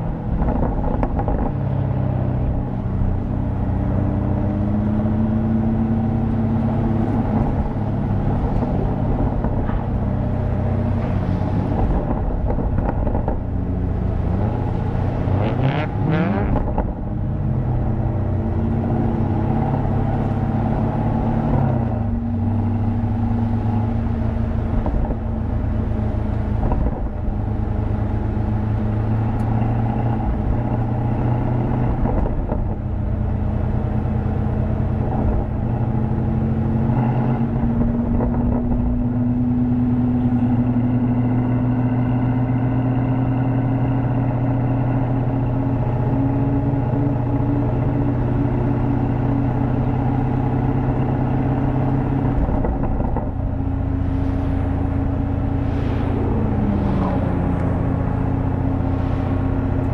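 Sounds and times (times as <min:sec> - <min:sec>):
car engine low rumble: 0:00.0 - 0:59.9.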